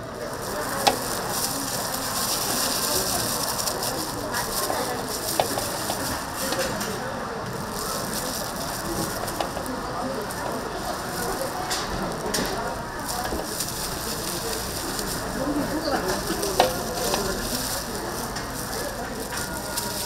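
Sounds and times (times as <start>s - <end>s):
meat patties sizzling: 0.0s - 20.0s.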